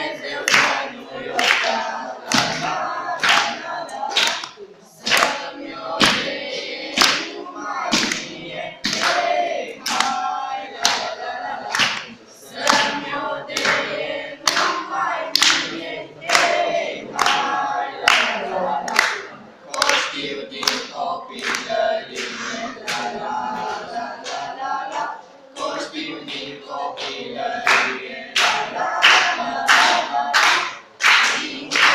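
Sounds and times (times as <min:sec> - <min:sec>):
group of people singing: 0:00.0 - 0:31.9
hand claps on a steady beat: 0:00.2 - 0:31.9.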